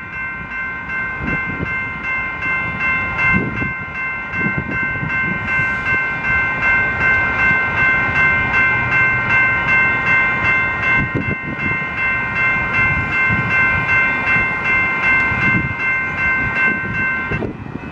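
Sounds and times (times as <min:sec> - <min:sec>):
railroad crossing bells ringing: 0:00.0 - 0:17.9.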